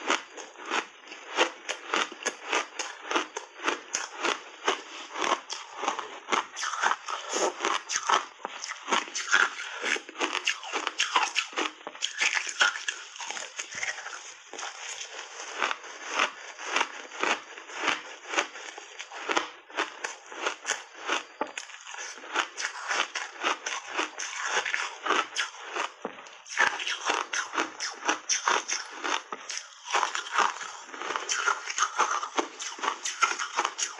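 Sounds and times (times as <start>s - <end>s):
ice crunching while chewed: 0.0s - 33.9s.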